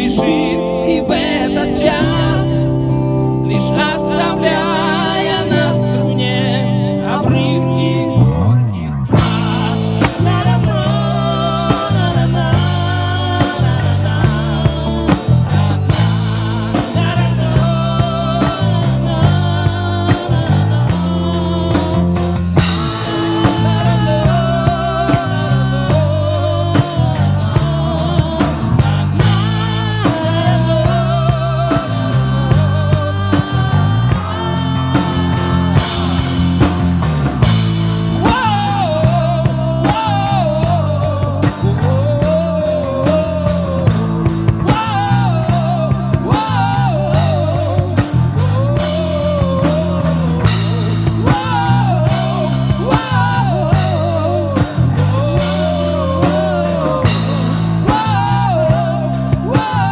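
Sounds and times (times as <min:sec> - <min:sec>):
bass and guitar: 0:00.0 - 0:59.9
drum kit beat: 0:09.2 - 0:59.9.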